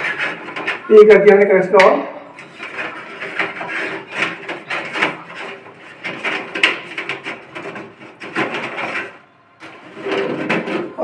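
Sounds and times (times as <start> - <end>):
rubbing and scraping: 0.0 - 11.0.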